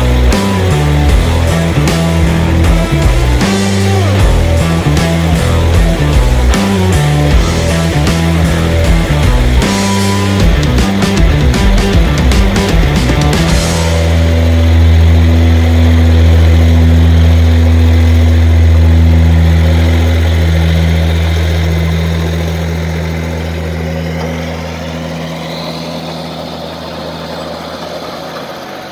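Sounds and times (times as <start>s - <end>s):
tractor diesel engine hum: 0.0s - 28.9s.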